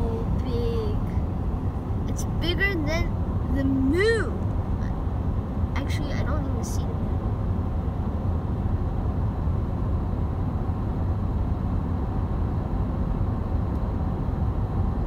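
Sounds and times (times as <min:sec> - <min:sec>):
car driving on road: 0:00.0 - 0:15.0.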